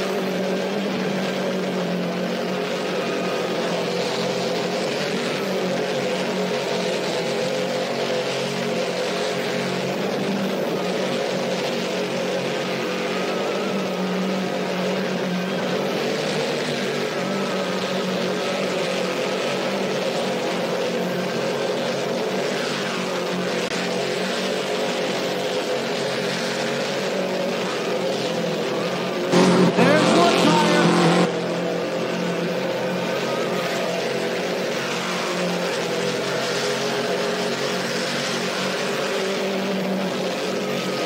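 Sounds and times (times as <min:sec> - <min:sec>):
car engine at high revs: 0:00.0 - 0:41.0
tyres spinning in a burnout: 0:00.0 - 0:41.0.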